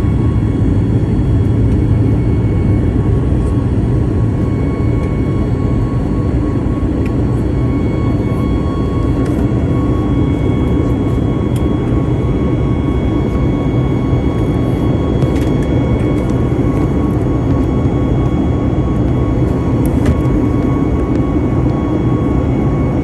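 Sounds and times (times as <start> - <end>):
faint steady whine: 0.0 - 23.0
jet engine and air noise in cabin: 0.0 - 23.0.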